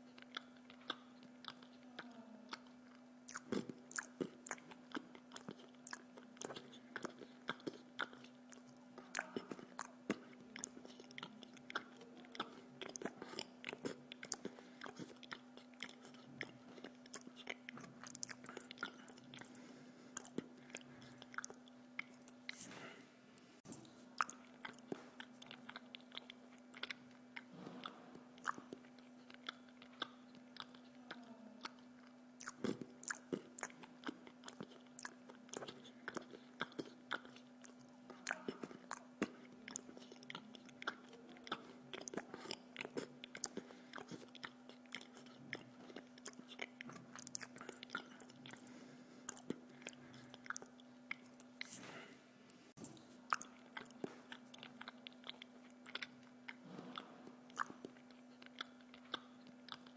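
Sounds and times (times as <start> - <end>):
person chewing food: 0.0 - 59.9
steady low hum: 0.0 - 59.9.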